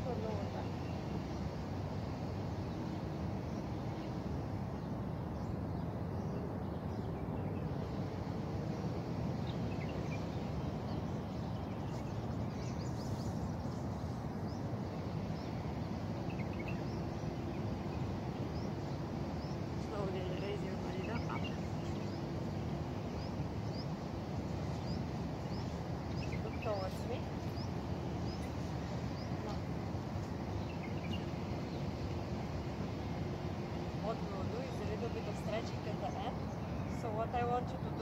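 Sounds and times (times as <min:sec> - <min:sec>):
low outdoor background noise: 0:00.0 - 0:38.0.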